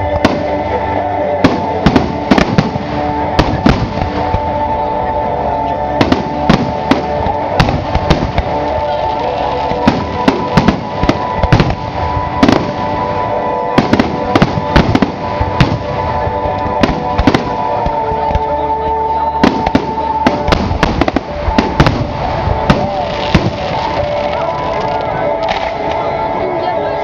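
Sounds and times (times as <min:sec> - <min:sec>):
music: 0:00.0 - 0:27.0.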